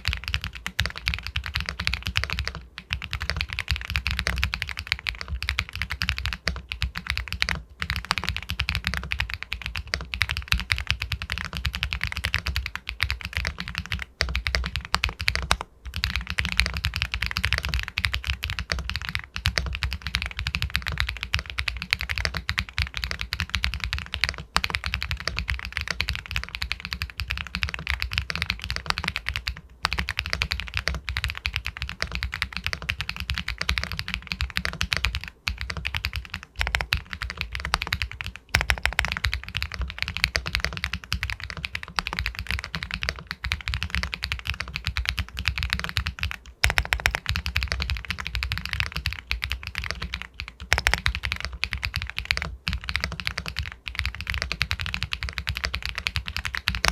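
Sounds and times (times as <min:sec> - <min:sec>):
fast typing on mechanical keyboard: 0:00.0 - 0:56.9.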